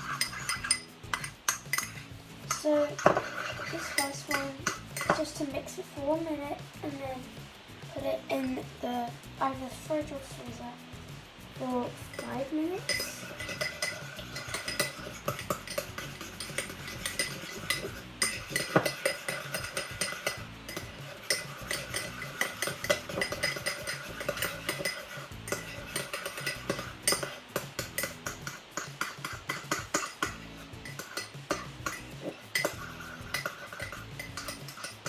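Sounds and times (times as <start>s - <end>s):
utensil clinking against bowl: 0.0s - 5.3s, 12.1s - 35.0s.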